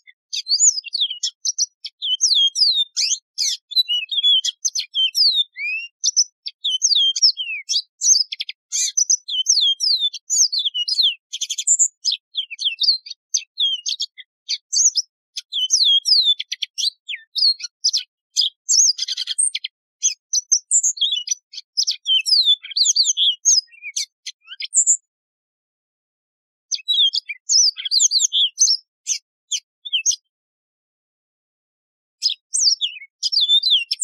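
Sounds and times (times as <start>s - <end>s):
canary singing: 0.0s - 25.1s, 26.7s - 30.3s, 32.2s - 34.0s.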